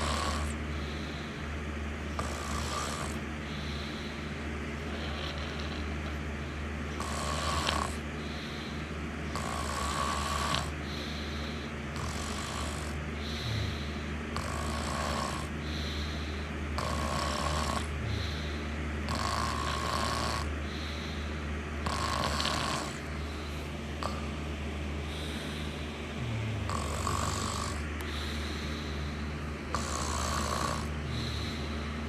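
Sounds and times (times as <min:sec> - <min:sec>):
person snoring: 0:00.0 - 0:01.4, 0:02.1 - 0:24.4, 0:25.0 - 0:32.0
constant low hum: 0:00.0 - 0:32.0.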